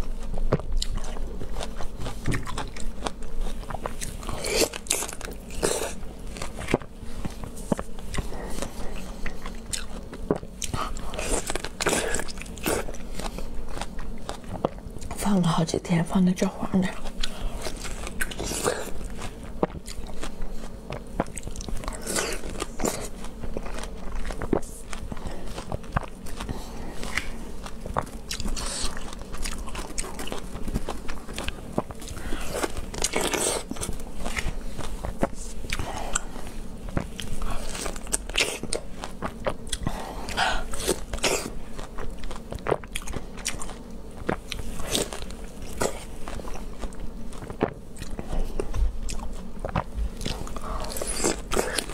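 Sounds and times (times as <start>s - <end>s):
wet chewing: 0.0s - 15.3s, 16.8s - 51.9s
fruit crunching: 0.0s - 51.9s.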